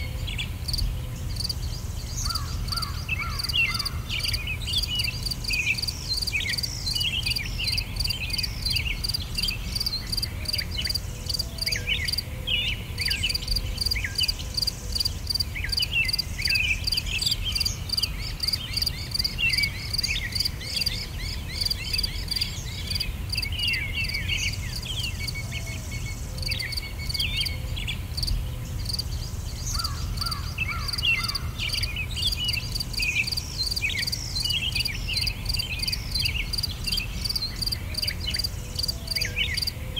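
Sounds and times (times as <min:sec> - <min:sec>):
insect chirring: 0:01.4 - 0:01.6, 0:02.2 - 0:12.2, 0:13.0 - 0:20.5, 0:21.5 - 0:25.1, 0:28.2 - 0:39.7.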